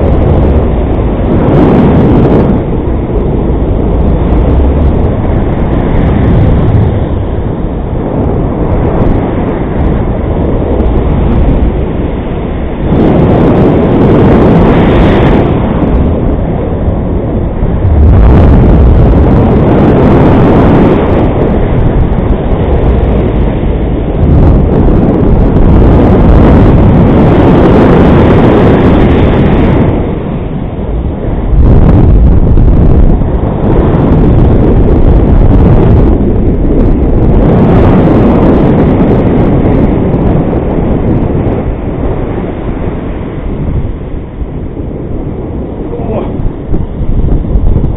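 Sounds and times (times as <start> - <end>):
strong wind on microphone: 0.0 - 47.9.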